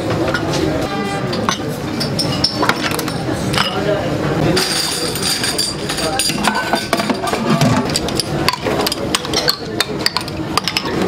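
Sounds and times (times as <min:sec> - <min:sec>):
ceramic bowls clinking on steel: 0:01.3 - 0:03.9, 0:04.6 - 0:11.0.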